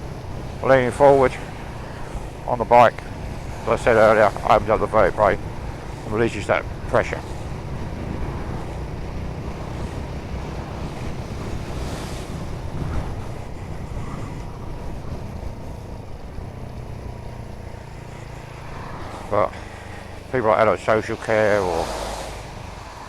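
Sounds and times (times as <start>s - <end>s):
engine and road rumble: 0.0s - 23.0s
wind rushing over microphone: 0.0s - 23.0s.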